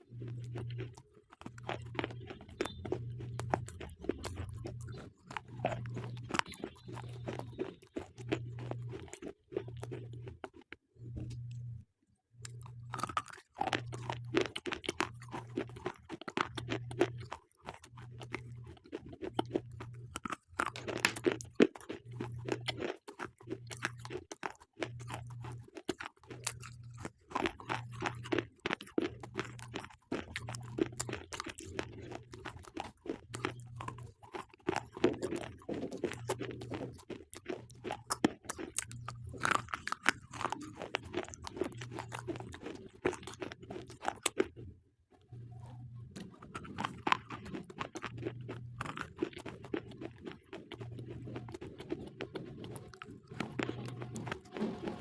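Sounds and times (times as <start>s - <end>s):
pencils being chewed crunching: 0.0s - 11.8s, 12.4s - 55.0s.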